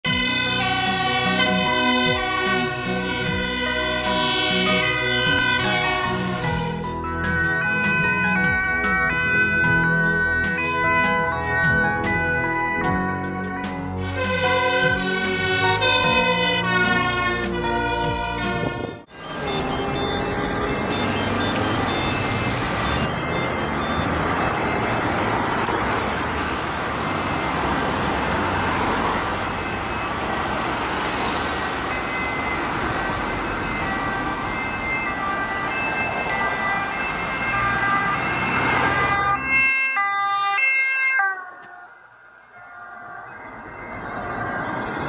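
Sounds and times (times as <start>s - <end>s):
emergency siren: 0.0s - 45.0s
passing road traffic: 0.0s - 45.0s.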